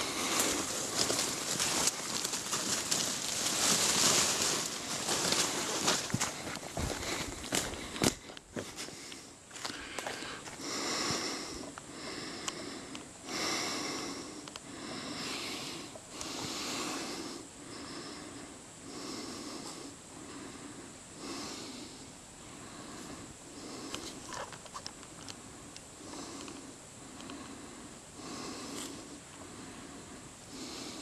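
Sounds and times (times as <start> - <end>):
person breathing heavily: 0.0 - 24.5, 25.4 - 31.0.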